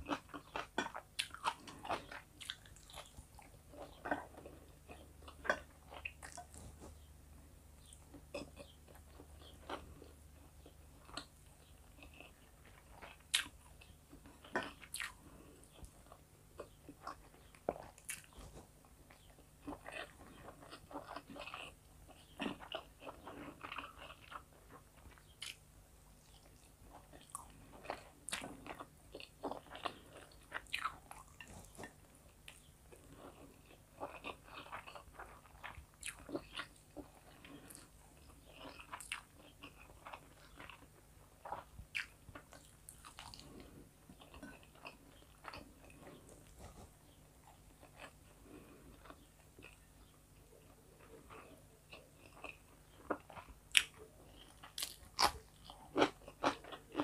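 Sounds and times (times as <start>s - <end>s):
person chewing and biting food: 0.0s - 7.1s, 7.8s - 25.6s, 26.2s - 49.9s, 50.7s - 57.0s.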